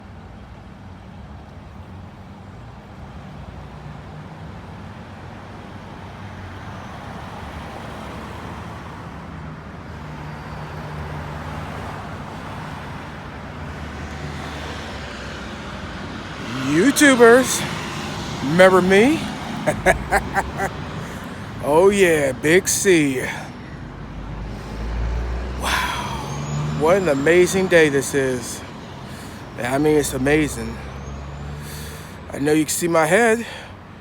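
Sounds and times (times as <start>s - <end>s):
road traffic noise: 0.0s - 34.0s.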